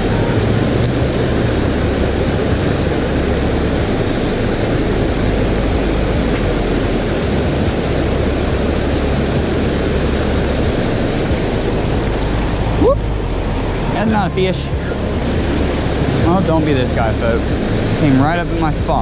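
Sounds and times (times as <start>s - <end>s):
river rapids rushing: 0.0s - 19.0s
wind rumble on microphone: 0.0s - 19.0s.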